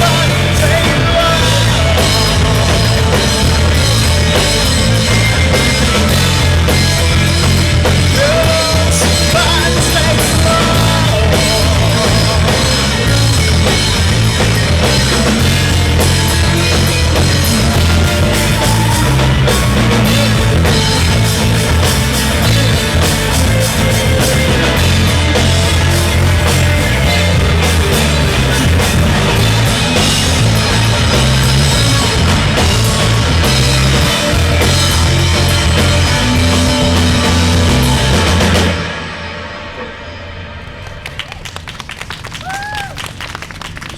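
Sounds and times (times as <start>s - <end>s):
live rock band: 0.0s - 43.9s.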